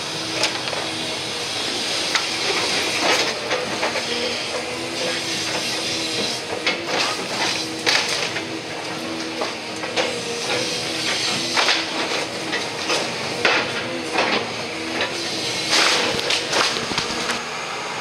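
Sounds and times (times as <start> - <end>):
machinery running: 0.0 - 18.0.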